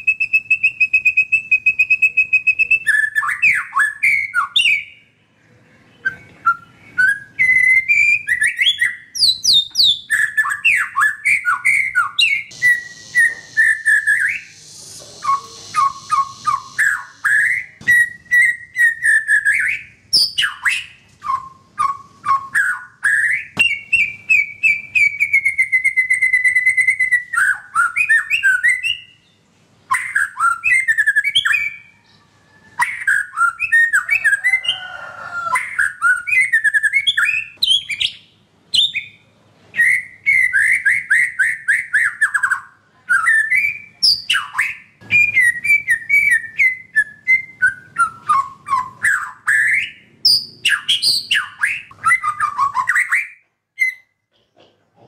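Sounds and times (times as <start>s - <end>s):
bird singing varied song: 0.0s - 34.8s, 35.4s - 54.2s.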